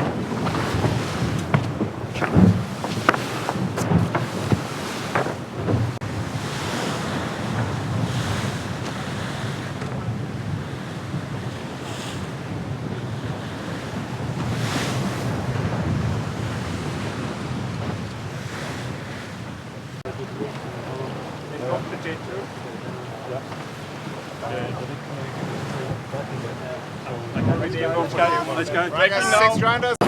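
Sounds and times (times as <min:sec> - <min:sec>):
water rushing along hull: 0:00.0 - 0:30.0
wind buffeting microphone: 0:00.0 - 0:30.0.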